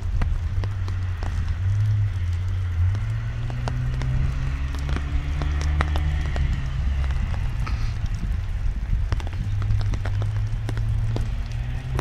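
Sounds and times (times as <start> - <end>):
car engine accelerating: 0.0 - 8.5, 9.1 - 12.0
raindrops hitting microphone: 0.0 - 12.0.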